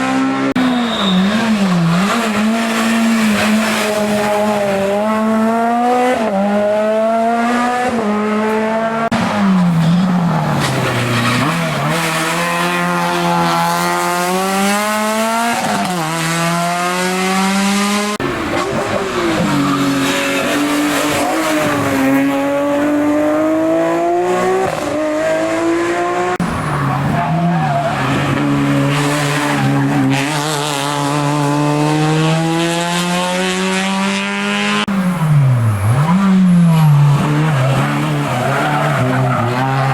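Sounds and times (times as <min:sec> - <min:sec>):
race car engine shifting gears: 0:00.0 - 0:39.9.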